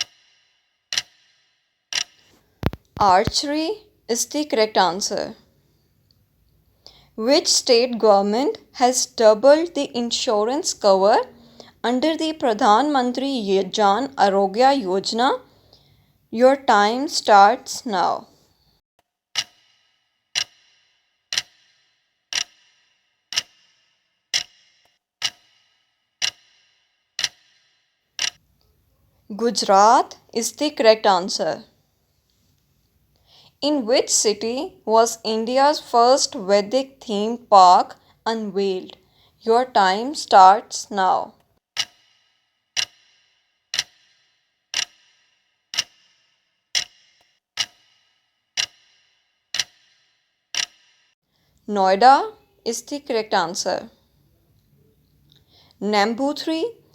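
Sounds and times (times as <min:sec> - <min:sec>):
clock ticking: 0:00.0 - 0:05.4, 0:06.8 - 0:15.8, 0:16.4 - 0:18.3, 0:19.3 - 0:20.7, 0:21.3 - 0:28.7, 0:29.4 - 0:31.7, 0:33.6 - 0:51.0, 0:51.8 - 0:54.0.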